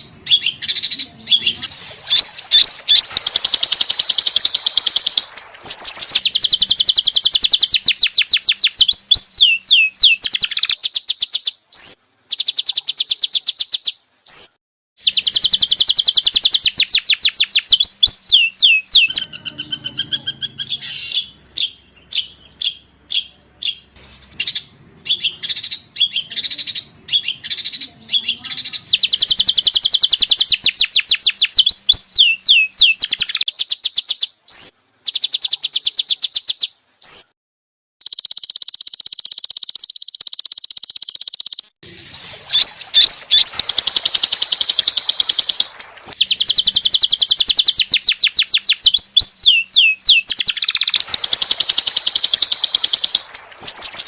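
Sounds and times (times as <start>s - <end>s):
songbird trills and whistles: 0.3s - 37.3s, 42.5s - 54.0s.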